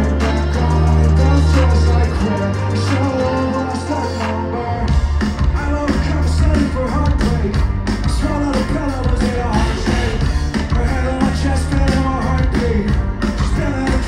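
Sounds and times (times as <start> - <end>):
heavy drums: 0.0 - 14.0
live rock band playing: 0.0 - 14.0
person singing: 0.0 - 14.0.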